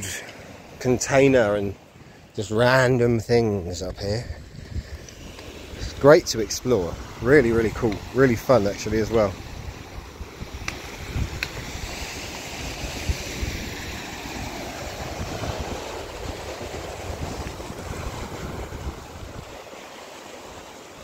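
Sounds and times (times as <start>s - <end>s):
sea waves washing on shore: 0.0s - 21.0s
wind rumbling on microphone: 3.7s - 21.0s.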